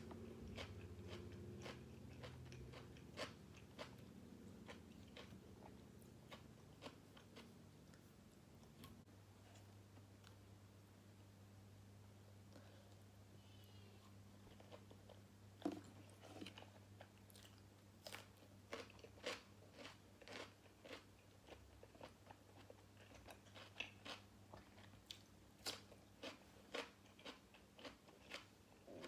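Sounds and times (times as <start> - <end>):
chewing crunchy food: 0.0 - 10.4, 14.4 - 29.0.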